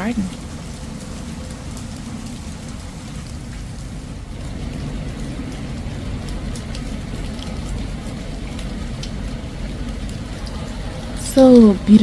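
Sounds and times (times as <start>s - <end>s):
rain drop ticks: 0.0s - 12.0s
steady rain falling: 0.0s - 12.0s
low rumble: 0.1s - 11.9s.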